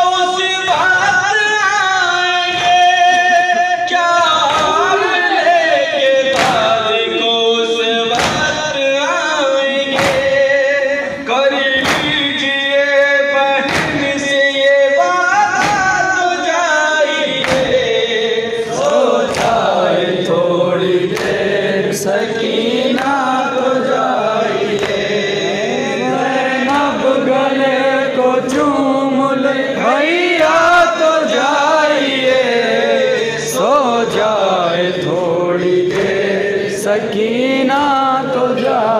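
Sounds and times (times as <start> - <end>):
men chanting a lament: 0.0 - 38.9
rhythmic chest slaps: 0.1 - 38.9.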